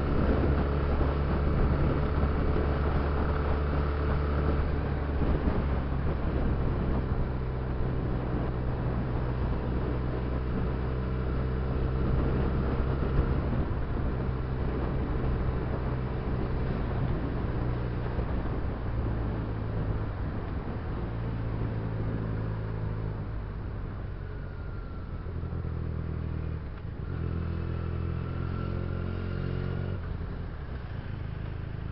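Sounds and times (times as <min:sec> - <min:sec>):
wind noise: 0:00.0 - 0:31.0.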